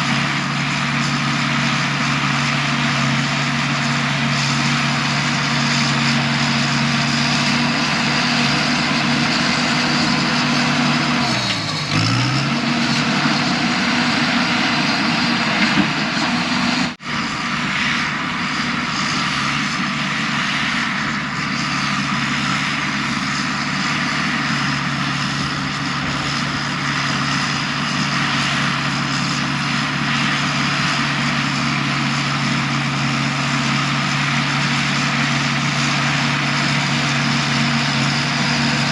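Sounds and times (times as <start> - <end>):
diesel engine of heavy machinery: 0.0 - 38.9.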